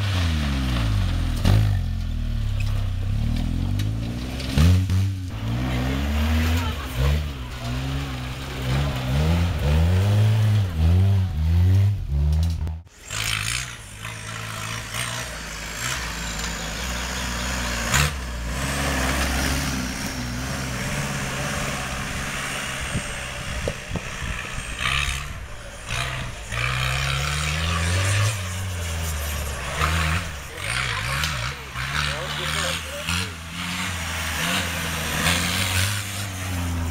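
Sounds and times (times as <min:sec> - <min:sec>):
small tractor engines revving: 0:00.0 - 0:36.9.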